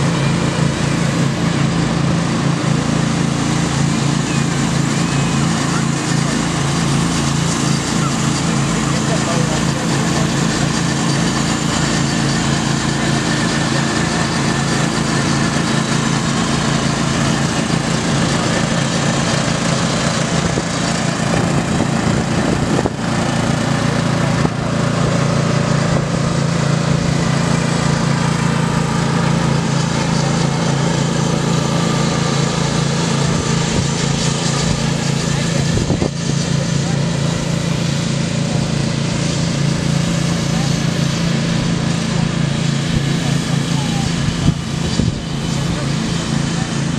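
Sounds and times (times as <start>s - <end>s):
lawn mower engines droning: 0.0s - 46.9s.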